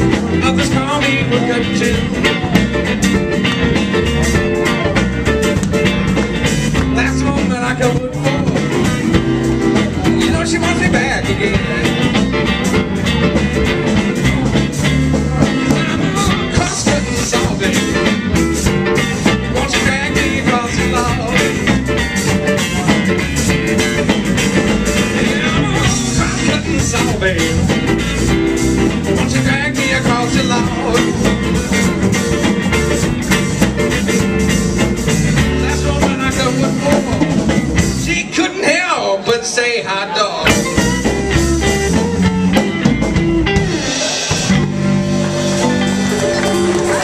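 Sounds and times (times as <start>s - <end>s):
live blues band playing: 0.0s - 47.0s.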